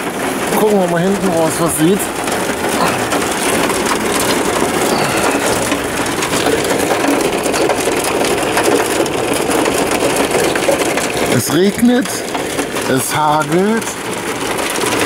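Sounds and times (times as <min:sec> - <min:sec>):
heavy rain on a vehicle roof: 0:00.0 - 0:15.0.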